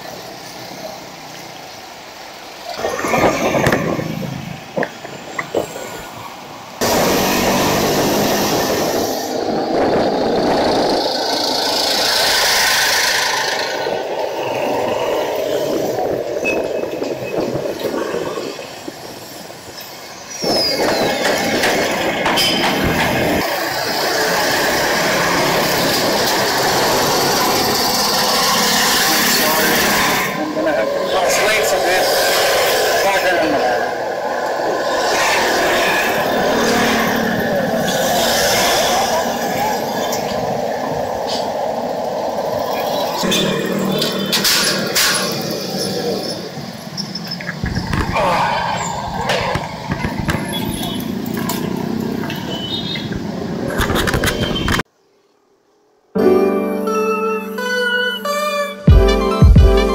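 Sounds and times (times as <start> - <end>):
passing vehicle engines: 0.0 - 54.8
road and wind noise: 0.0 - 56.1.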